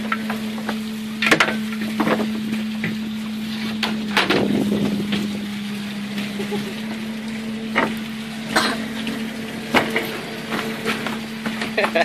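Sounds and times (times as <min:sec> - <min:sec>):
boat machinery humming: 0:00.0 - 0:12.0
water hissing: 0:00.6 - 0:12.0.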